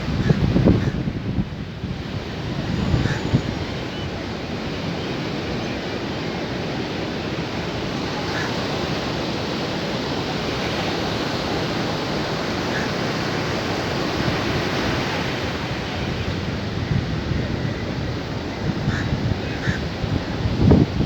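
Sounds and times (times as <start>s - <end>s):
sea surf washing in: 0.0s - 21.0s
wind on microphone: 0.0s - 21.0s.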